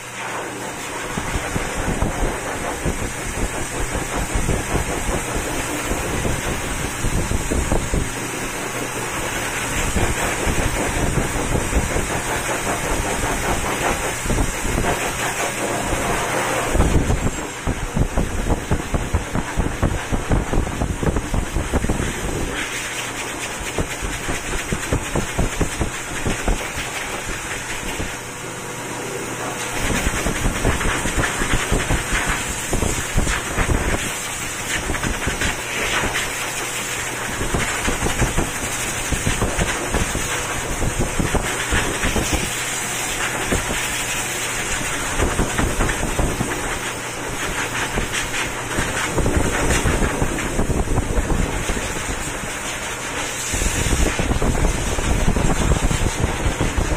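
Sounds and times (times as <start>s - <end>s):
pet dryer blowing air: 0.0s - 56.9s
air gusts buffeting microphone: 0.8s - 28.4s, 29.4s - 36.4s, 37.1s - 56.9s.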